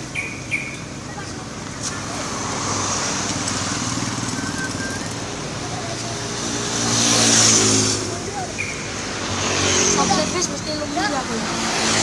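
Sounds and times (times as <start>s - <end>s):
vehicle engine passing by: 1.9s - 12.0s.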